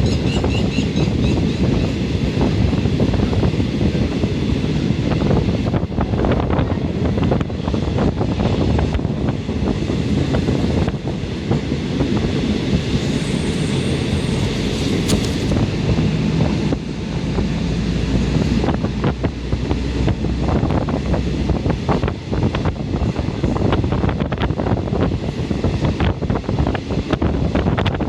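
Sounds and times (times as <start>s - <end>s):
train rumble: 0.0s - 28.0s
wind rushing over microphone: 0.0s - 28.0s.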